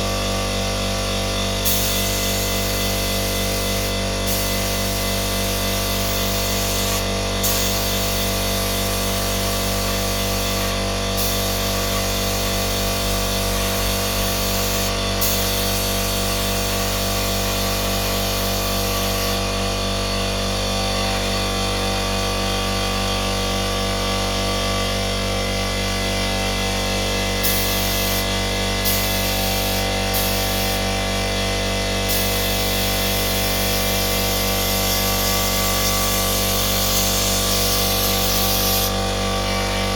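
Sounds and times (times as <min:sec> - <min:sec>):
power tool motor humming: 0:00.0 - 0:20.2, 0:25.7 - 0:39.9.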